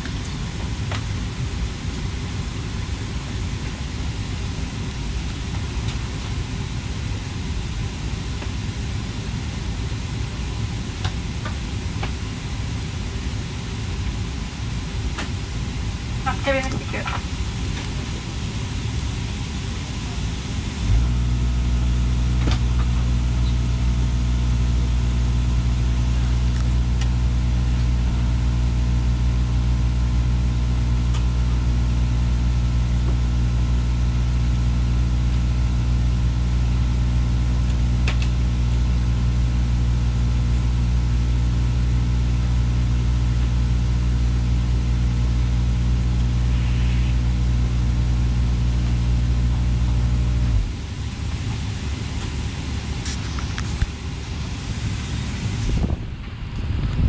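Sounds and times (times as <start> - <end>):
airliner cabin hum: 0.0 - 57.0.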